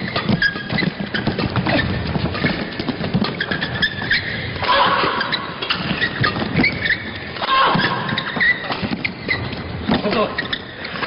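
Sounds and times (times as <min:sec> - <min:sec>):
shoes squeaking on court: 0:00.0 - 0:11.0.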